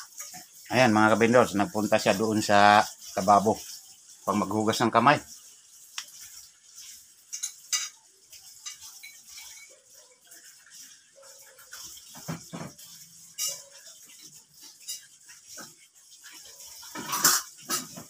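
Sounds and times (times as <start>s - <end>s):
dishes and utensils clinking: 0.0s - 4.6s, 6.3s - 18.0s.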